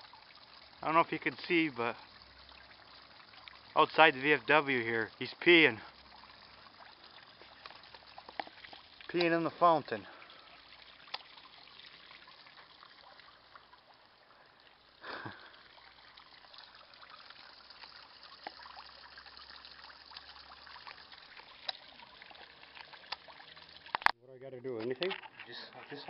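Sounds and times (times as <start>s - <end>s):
water trickling over rocks: 0.0s - 26.0s.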